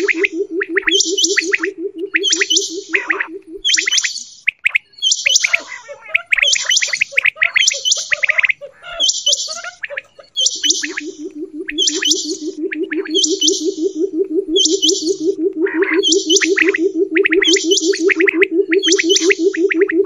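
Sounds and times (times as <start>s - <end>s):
low rapid pulsing call: 0.0s - 4.0s, 4.8s - 20.0s
quail chirping calls: 0.0s - 20.0s.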